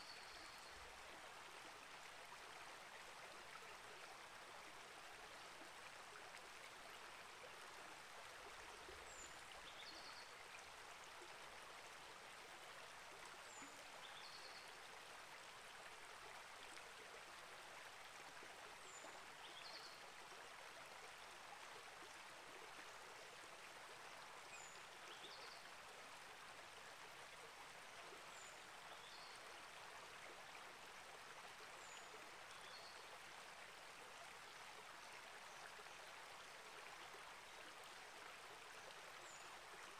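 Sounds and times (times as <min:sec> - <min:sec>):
small creek flowing: 0:00.0 - 0:39.9.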